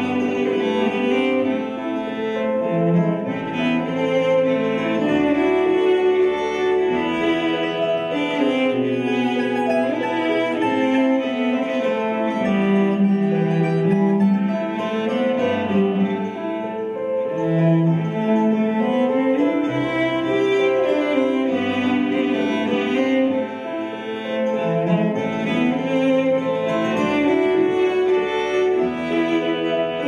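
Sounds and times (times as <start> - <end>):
cello bowing a melody: 0.0 - 30.0
plucked strings: 0.0 - 30.0.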